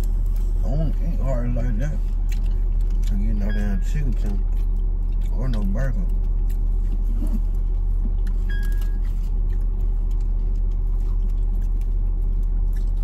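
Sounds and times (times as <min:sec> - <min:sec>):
car interior engine rumble: 0:00.0 - 0:13.0.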